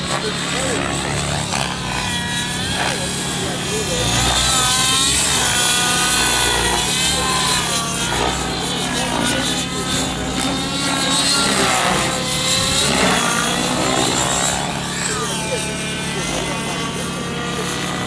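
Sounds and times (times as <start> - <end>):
model helicopter engine and rotors whining: 0.0 - 18.0.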